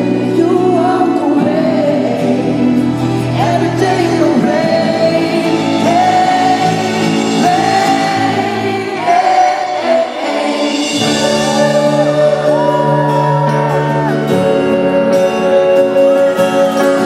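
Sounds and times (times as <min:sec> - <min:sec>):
band accompaniment: 0:00.0 - 0:17.0
voices singing long held notes: 0:00.0 - 0:17.0.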